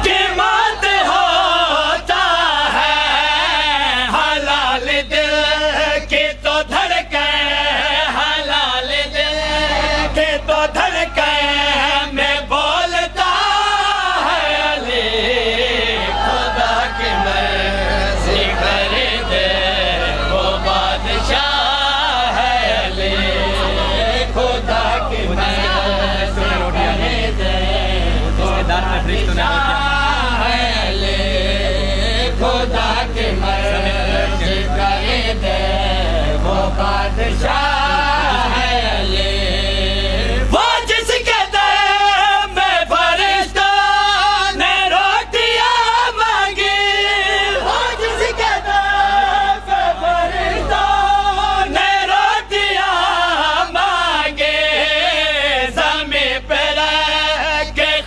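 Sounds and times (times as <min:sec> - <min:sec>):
men chanting in chorus: 0:00.0 - 0:58.0
steady low hum: 0:00.0 - 0:58.0.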